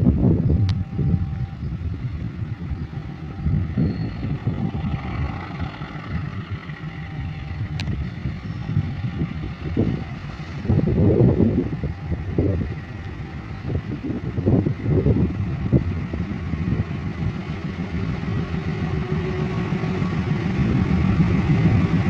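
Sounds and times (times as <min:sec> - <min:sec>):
diesel locomotive engine rumble: 0:00.0 - 0:22.0
train clattering: 0:02.4 - 0:22.0.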